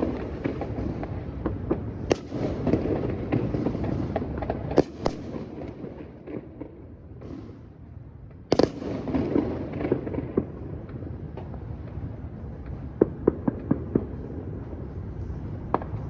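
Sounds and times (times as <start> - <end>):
firework cracks and pops: 0.0 - 16.0.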